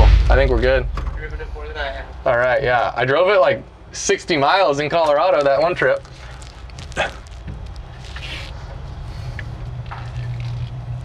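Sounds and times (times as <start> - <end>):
low steady vehicle hum: 0.0 - 11.0.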